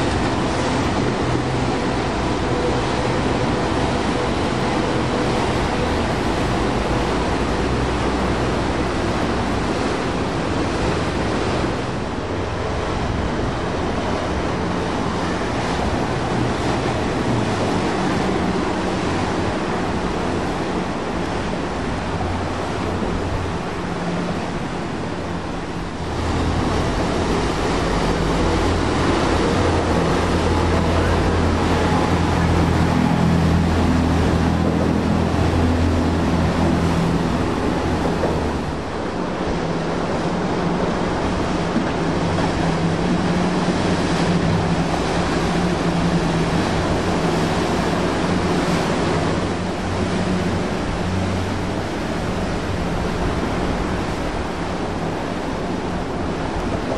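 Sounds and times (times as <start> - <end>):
boat engine drone: 0.0 - 56.9
rushing water current: 0.0 - 56.9.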